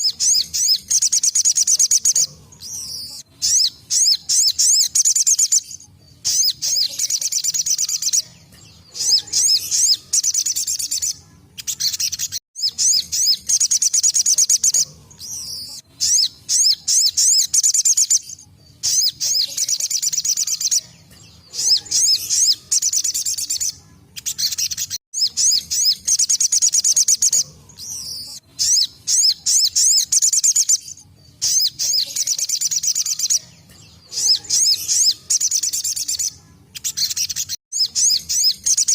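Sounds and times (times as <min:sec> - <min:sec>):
bird singing high trills: 0:00.0 - 0:38.9.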